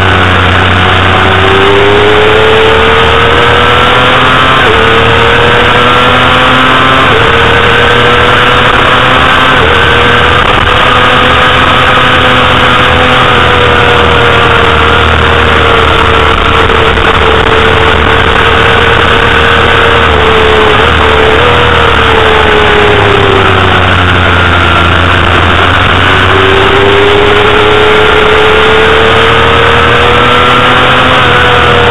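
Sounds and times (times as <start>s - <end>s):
motorcycle engine at high revs: 0.0s - 31.9s
wind noise on microphone: 3.6s - 31.9s.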